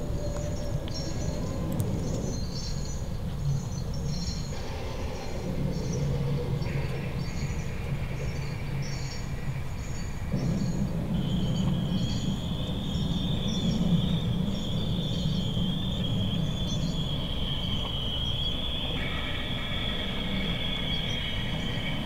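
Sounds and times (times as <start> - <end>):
high-pitched insect trill: 0.0 - 22.0
insect chirps: 0.0 - 22.0
low steady rumble: 0.0 - 22.0.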